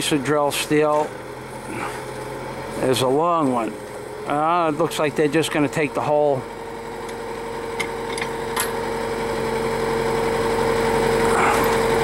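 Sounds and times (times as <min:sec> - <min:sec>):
drill rig engine humming: 0:00.0 - 0:12.0.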